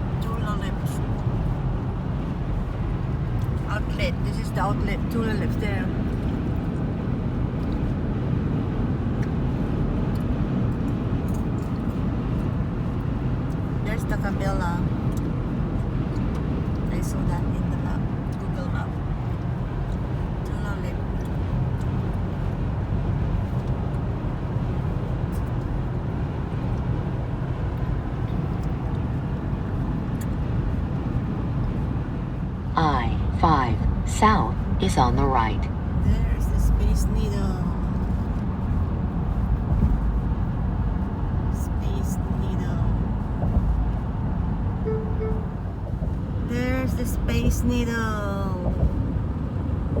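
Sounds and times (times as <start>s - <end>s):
tyre and engine rumble: 0.0s - 50.0s.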